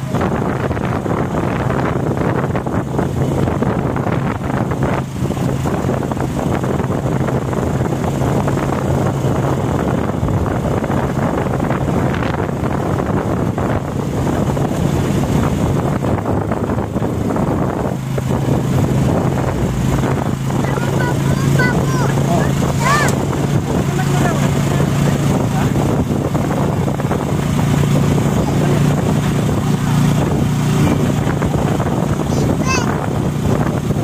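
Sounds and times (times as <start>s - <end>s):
motorcycle engine humming: 0.0s - 34.0s
wind buffeting microphone: 0.0s - 34.0s.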